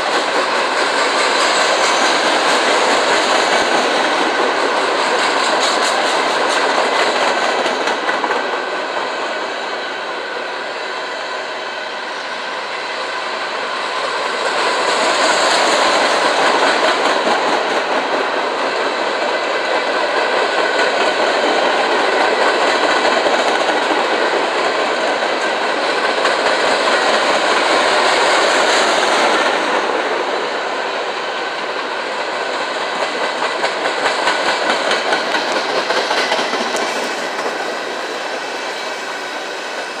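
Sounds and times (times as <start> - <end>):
freight train rumble and clatter: 0.0 - 40.0.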